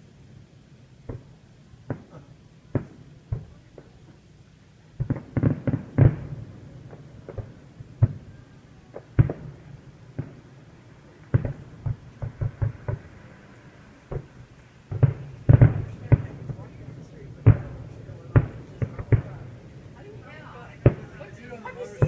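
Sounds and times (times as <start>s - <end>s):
firework shells booming: 1.0s - 4.3s, 5.0s - 22.0s.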